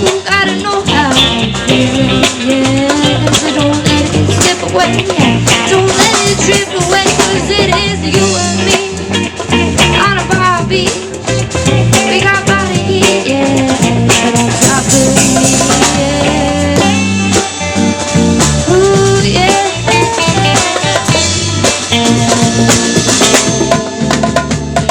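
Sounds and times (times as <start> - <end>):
live rock band playing: 0.0 - 24.9.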